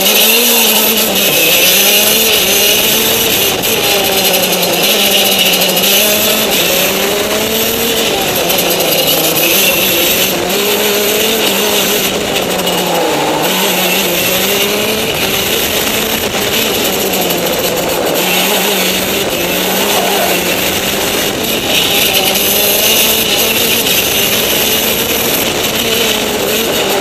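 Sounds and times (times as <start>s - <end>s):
kart engine accelerating: 0.0s - 27.0s.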